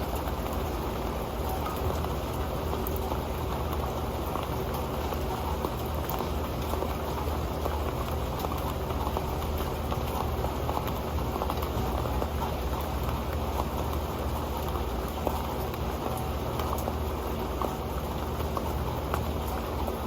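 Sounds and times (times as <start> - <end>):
rain on a metal pan: 0.0 - 20.0.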